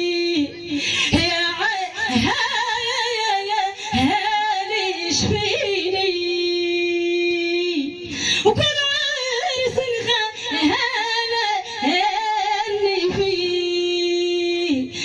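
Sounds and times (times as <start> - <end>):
woman singing into a microphone: 0.0 - 15.0.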